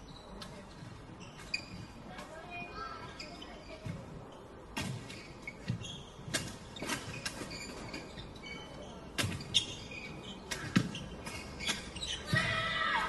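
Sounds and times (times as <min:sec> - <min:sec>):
sneakers squeaking on court: 0:00.0 - 0:12.4.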